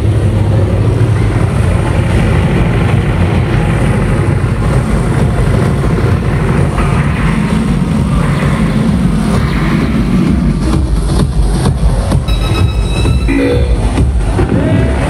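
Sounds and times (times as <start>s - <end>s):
rumbling engine sound effects: 0.0s - 15.0s.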